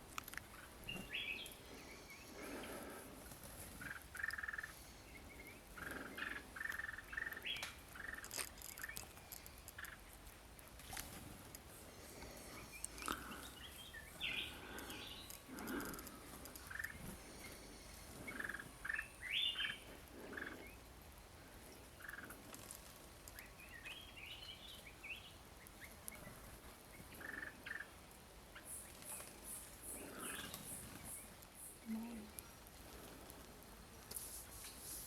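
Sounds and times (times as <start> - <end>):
birds calling: 0.0 - 10.1, 10.8 - 20.9, 23.3 - 33.4.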